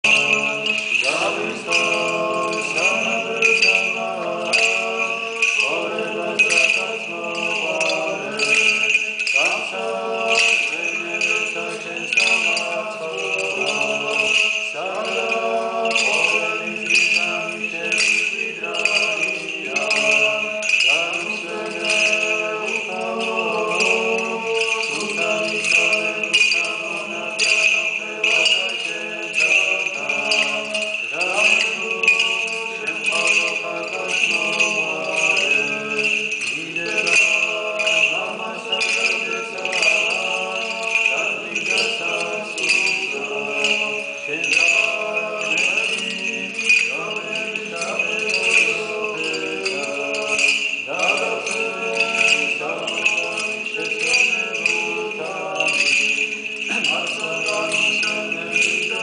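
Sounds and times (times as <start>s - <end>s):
men chanting: 0.0s - 59.0s
small bells jingling: 0.0s - 59.0s.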